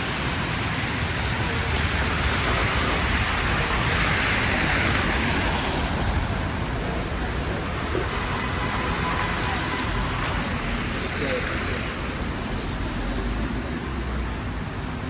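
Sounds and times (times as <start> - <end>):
car passing on wet road: 0.0 - 15.0
low traffic rumble: 0.0 - 15.0.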